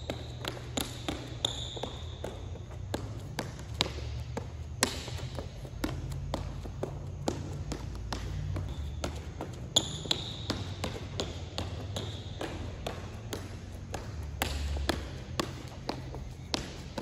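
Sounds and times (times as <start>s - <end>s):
sneaker footsteps tapping on court: 0.0s - 17.0s.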